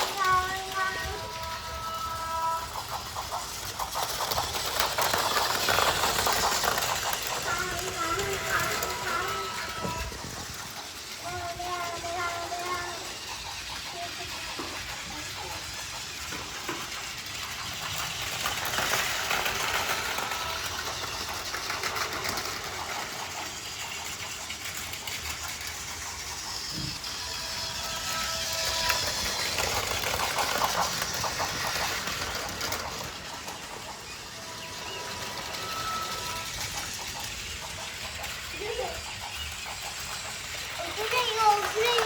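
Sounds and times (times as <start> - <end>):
toy train motors whirring: 0.0 - 42.0
wheels clattering on plastic track: 0.0 - 42.0.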